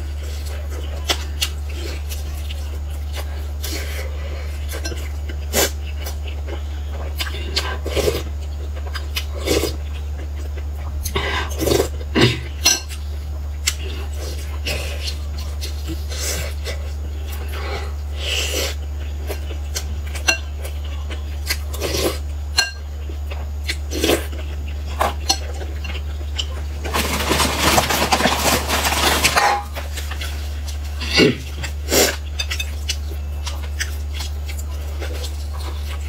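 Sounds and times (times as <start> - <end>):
chewing crisp food: 0.0 - 36.0
steady low hum: 0.0 - 36.0.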